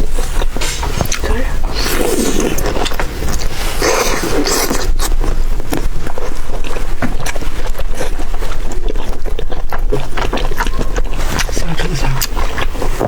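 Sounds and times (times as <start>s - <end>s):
food being bitten and chewed: 0.0s - 13.0s
mouth clicks and smacks: 0.0s - 13.0s.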